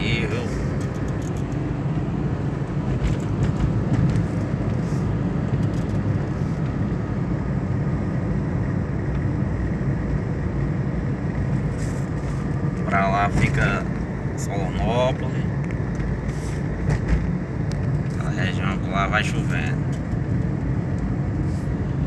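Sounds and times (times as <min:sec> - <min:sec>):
car driving on highway: 0:00.0 - 0:22.0.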